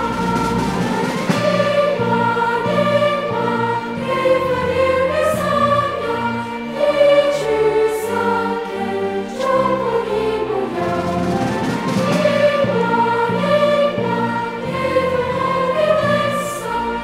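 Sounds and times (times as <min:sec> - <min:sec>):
crowd singing: 0:00.0 - 0:17.0
orchestra playing: 0:00.0 - 0:17.0.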